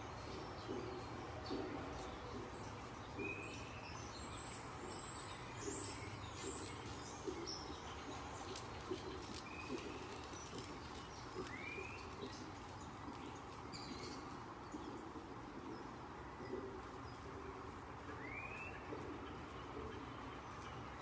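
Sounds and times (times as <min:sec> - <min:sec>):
low background hum: 0:00.0 - 0:21.0
small birds chirping: 0:00.0 - 0:21.0.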